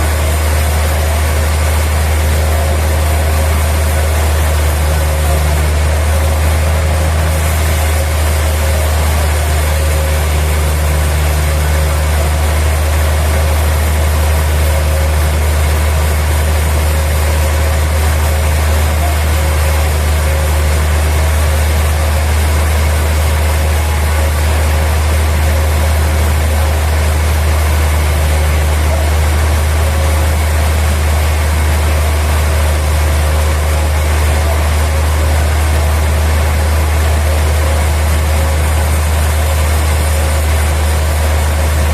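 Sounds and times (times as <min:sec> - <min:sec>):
sawmill machinery engine drone: 0:00.0 - 0:41.9.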